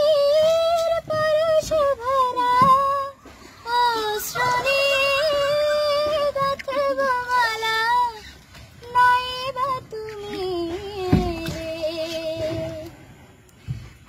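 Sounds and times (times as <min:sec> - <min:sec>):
girl singing in high voice: 0:00.0 - 0:12.9.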